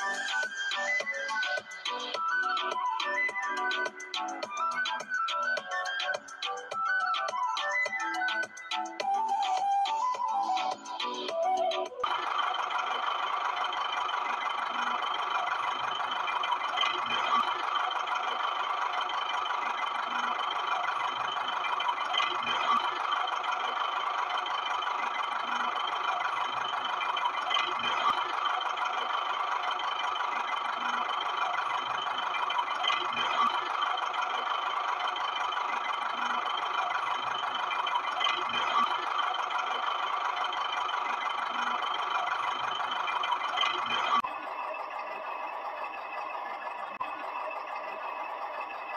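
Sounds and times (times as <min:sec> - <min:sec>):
small motor running and rattling: 0:00.0 - 0:48.9.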